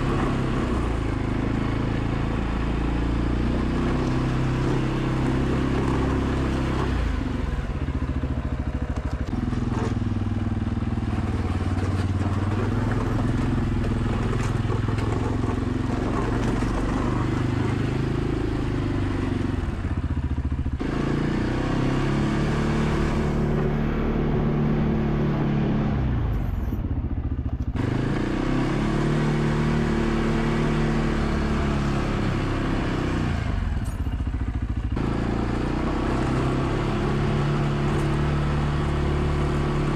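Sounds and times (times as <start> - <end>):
atv engine revving under load: 0.0 - 39.9.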